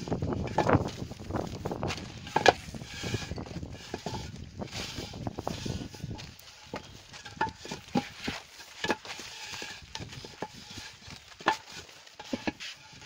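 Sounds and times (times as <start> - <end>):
masonry blocks knocking and scraping: 0.0 - 13.0.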